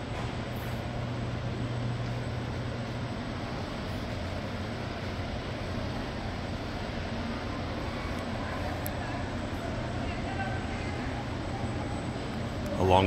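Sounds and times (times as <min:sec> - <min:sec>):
ventilation hum and rushing: 0:00.0 - 0:13.0.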